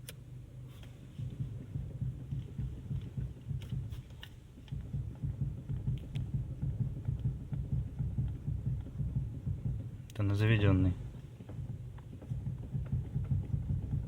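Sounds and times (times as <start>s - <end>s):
car engine throbbing: 0.2s - 14.0s.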